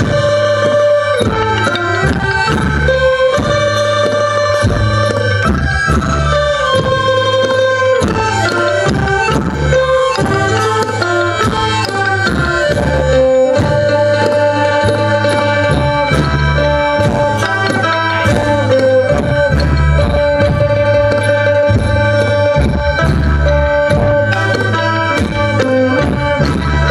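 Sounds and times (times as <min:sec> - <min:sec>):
hand drums beating: 0:00.0 - 0:26.9
melodic folk instruments: 0:00.0 - 0:26.9.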